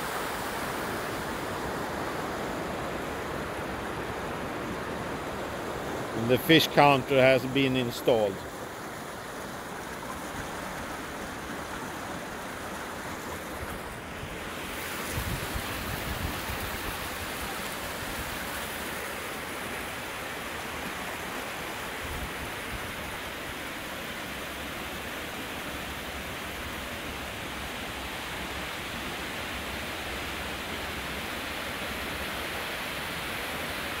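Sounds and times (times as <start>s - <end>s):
water rushing: 0.0s - 34.0s.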